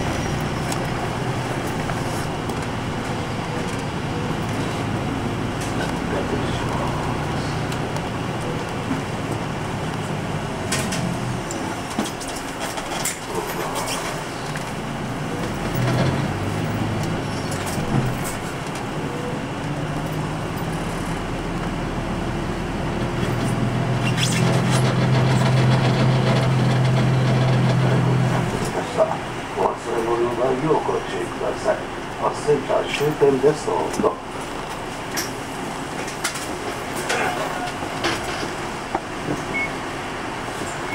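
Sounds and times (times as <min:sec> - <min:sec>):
bus diesel engine running: 0:00.0 - 0:40.9
road noise: 0:00.0 - 0:40.9.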